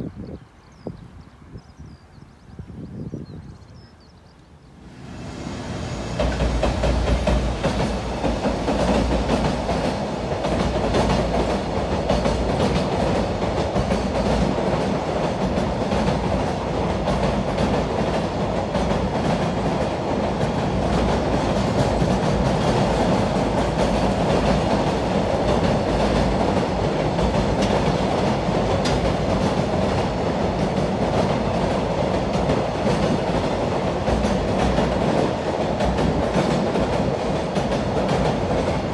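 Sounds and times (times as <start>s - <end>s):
train wheels clicking on rails: 5.3s - 38.9s.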